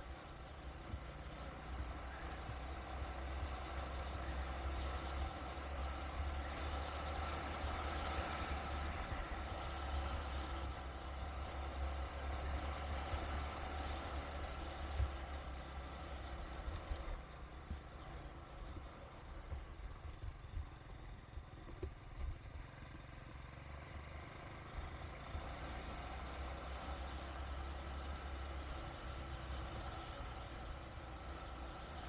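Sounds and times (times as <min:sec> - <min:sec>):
vehicle engine and road noise: 0:00.0 - 0:32.0.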